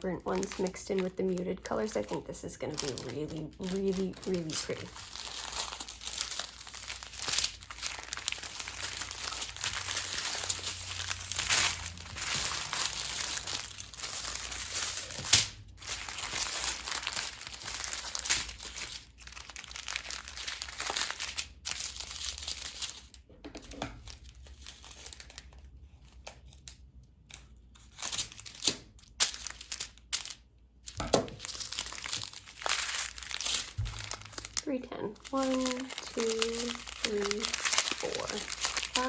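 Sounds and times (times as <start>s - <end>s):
plastic packaging crinkling: 0.0s - 23.3s, 24.0s - 39.0s.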